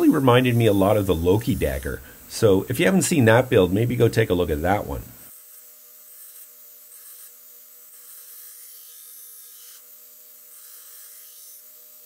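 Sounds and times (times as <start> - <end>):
belt grinder hissing on steel: 0.0 - 12.0
faint motor hum: 0.0 - 12.0.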